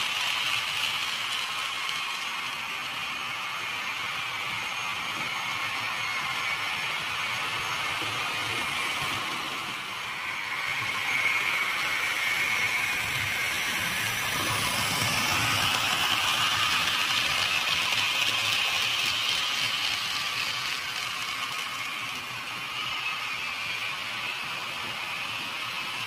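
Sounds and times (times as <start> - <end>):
model train running on rails: 0.0 - 26.0.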